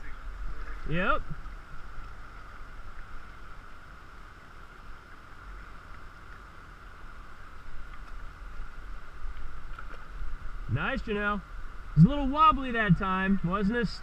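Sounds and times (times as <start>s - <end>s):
river water rushing over riffle: 0.0s - 14.0s.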